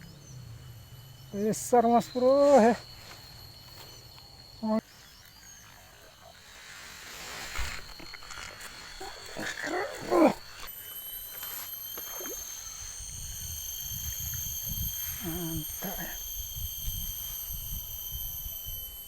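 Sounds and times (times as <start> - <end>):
high-pitched insect buzzing: 0.0 - 19.0.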